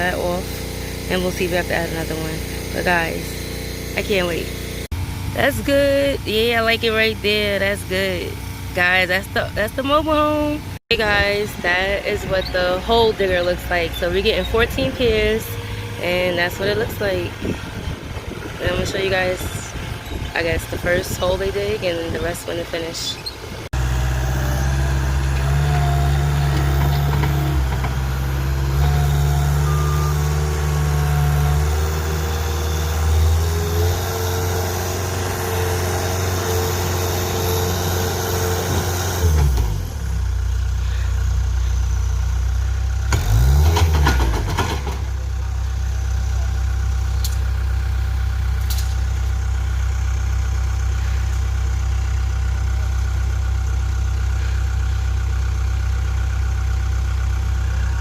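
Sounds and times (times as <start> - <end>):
auger rig engine running: 0.0 - 58.0.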